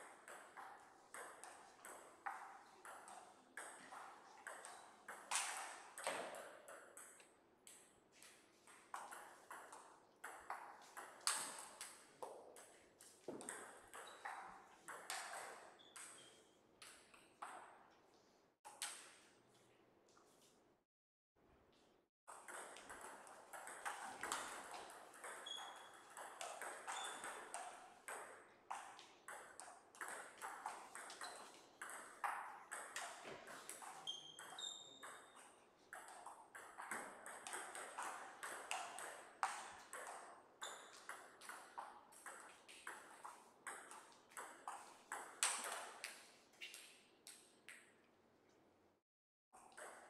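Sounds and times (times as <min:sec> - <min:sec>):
table tennis ball strikes and bounces: 0:00.0 - 0:17.9, 0:22.3 - 0:47.9, 0:49.6 - 0:50.0.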